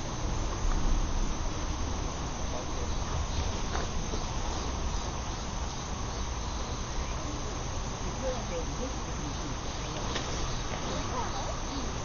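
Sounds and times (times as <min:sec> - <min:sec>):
crickets chirping: 0:00.0 - 0:12.0
even hiss: 0:00.0 - 0:12.0.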